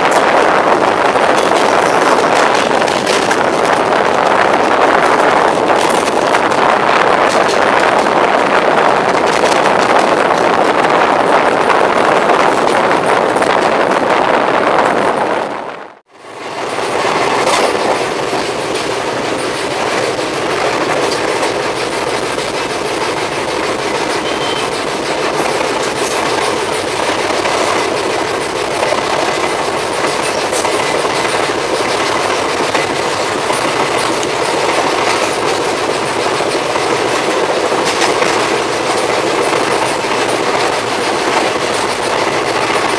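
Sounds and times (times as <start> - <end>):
train rushing rail noise: 0.0 - 42.9
wheels clickety-clack on track: 0.0 - 42.9.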